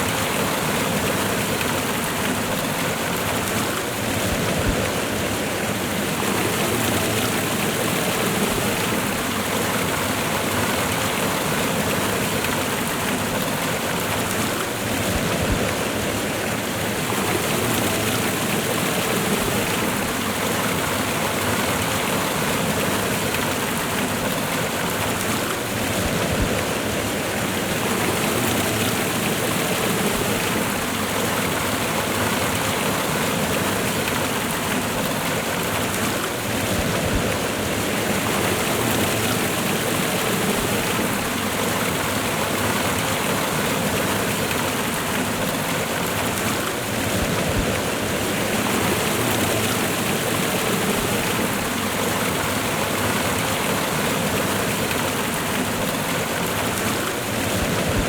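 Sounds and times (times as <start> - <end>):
waterfall and river rushing: 0.0 - 58.0.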